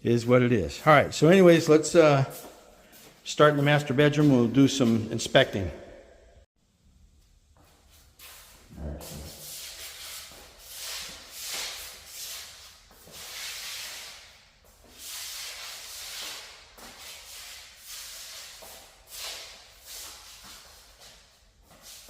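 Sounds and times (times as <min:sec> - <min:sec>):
shoes scuffing on tile floor: 0:00.7 - 0:05.6, 0:07.5 - 0:22.0.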